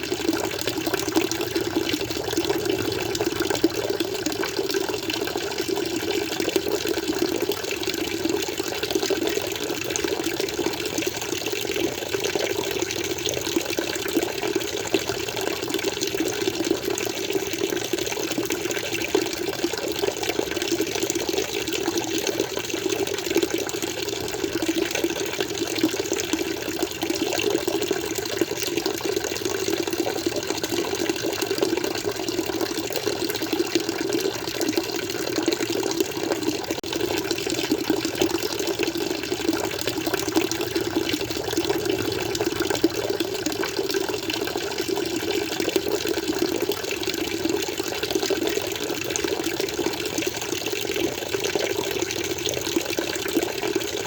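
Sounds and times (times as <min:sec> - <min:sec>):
water flowing in aquarium: 0:00.0 - 0:54.0.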